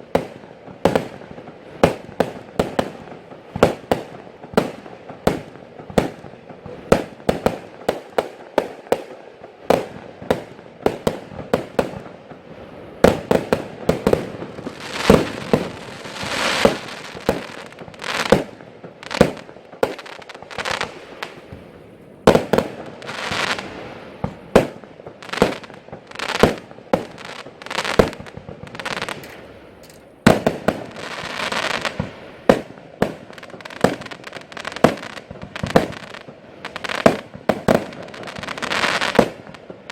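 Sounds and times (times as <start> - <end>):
fireworks crackle and hiss: 0.0 - 39.9.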